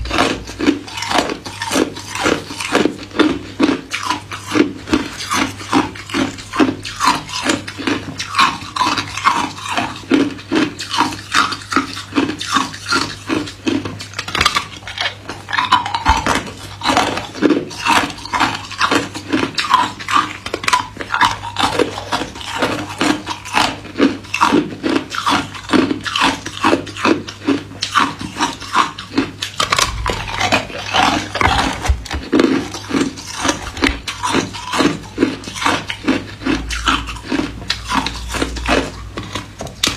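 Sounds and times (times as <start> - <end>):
ice cubes crunched by teeth: 0.0 - 39.9.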